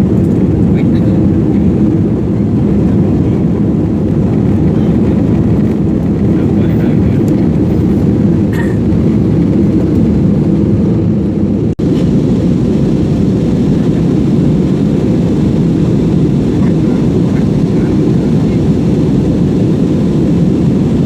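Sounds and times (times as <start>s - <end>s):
aircraft low rumble: 0.0s - 21.0s.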